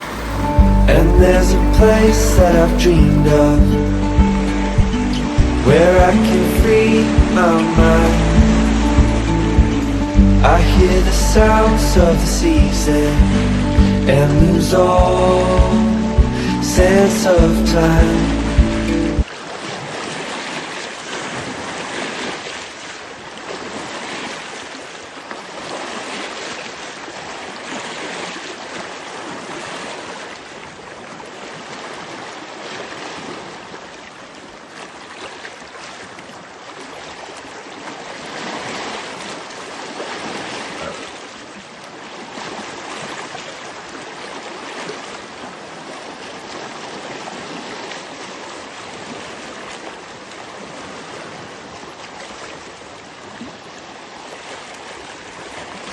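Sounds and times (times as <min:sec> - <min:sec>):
lake water lapping: 0:00.0 - 0:55.9.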